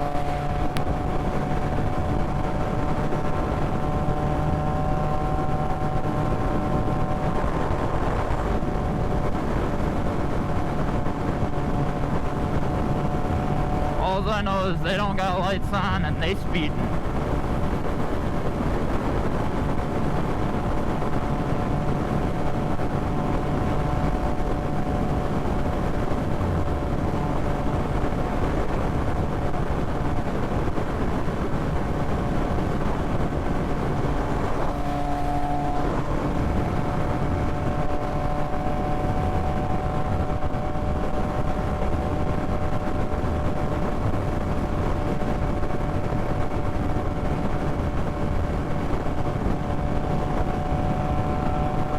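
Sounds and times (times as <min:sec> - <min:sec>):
motorcycle engine drone: 0:00.0 - 0:51.9
wind rush on microphone: 0:00.0 - 0:51.9.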